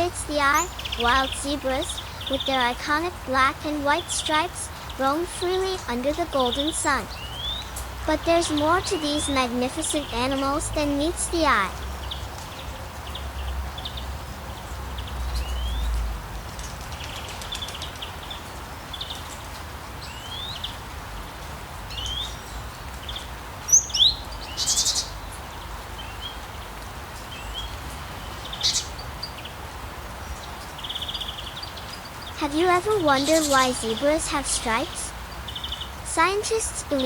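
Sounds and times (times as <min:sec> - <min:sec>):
steady outdoor hiss: 0:00.0 - 0:37.0
wild birds chirping: 0:00.0 - 0:37.0.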